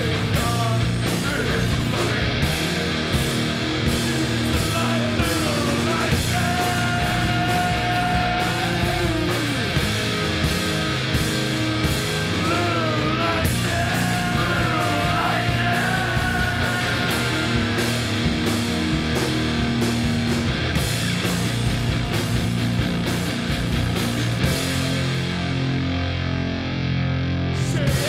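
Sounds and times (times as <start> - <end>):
steady drums: 0.0 - 26.5, 27.4 - 28.0
electric guitar: 0.0 - 28.0.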